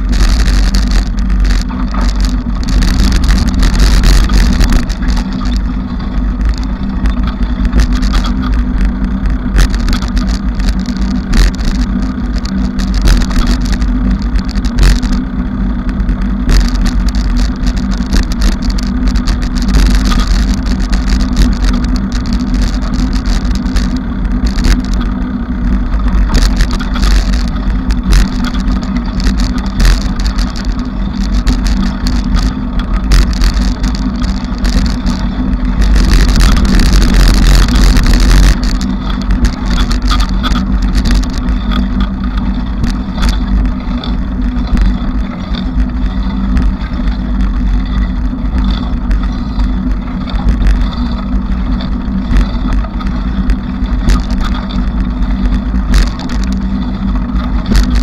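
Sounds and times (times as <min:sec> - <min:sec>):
bicycle rattles and clicks: 0:00.0 - 0:58.0
bicycle rumble: 0:00.0 - 0:58.0.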